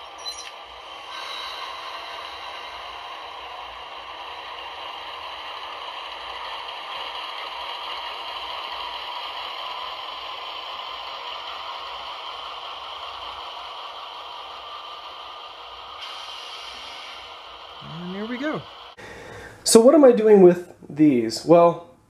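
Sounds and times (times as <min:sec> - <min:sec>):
model locomotive motors whirring: 0:00.0 - 0:19.0.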